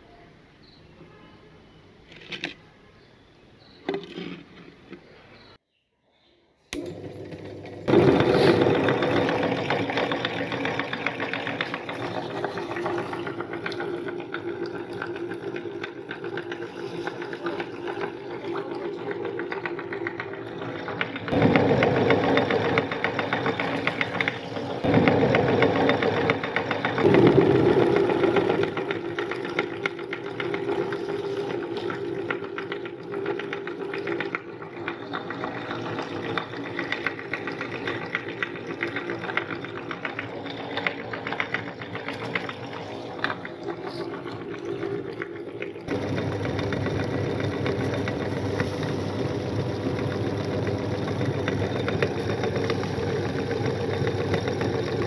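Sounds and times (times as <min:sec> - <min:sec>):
meat grinder motor hum: 0:06.8 - 0:55.0.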